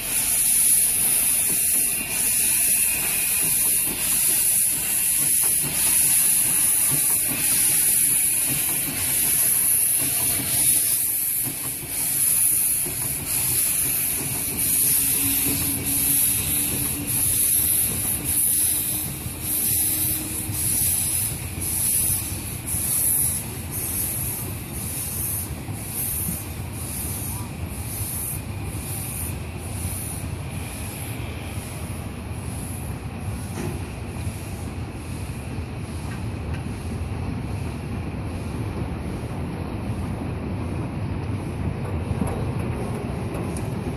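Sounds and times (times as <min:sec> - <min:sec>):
steam locomotive chuffing: 0:00.0 - 0:43.9
train coaches rumbling: 0:00.0 - 0:43.9.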